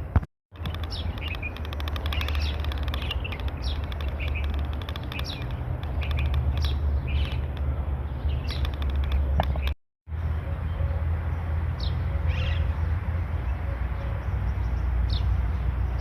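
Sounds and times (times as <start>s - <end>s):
bird chirping: 0.6s - 16.0s.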